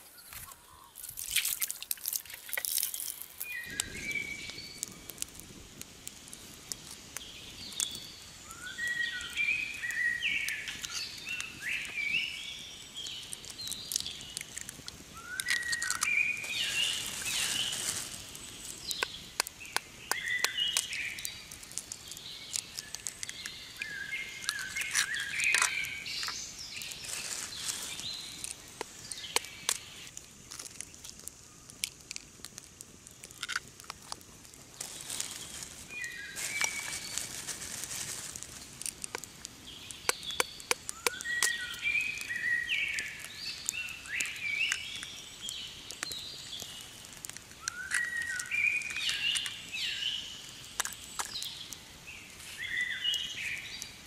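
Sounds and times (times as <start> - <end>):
small birds chirping: 0.0 - 54.0
eggs cracking open: 0.4 - 8.0, 13.0 - 17.2, 18.2 - 37.4, 38.1 - 51.9.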